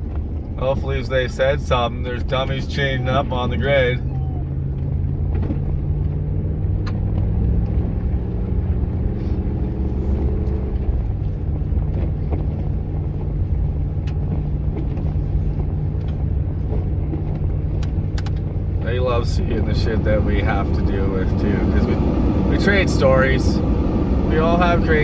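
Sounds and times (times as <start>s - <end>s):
road noise: 0.0s - 25.0s
vehicle engine running: 0.0s - 25.0s.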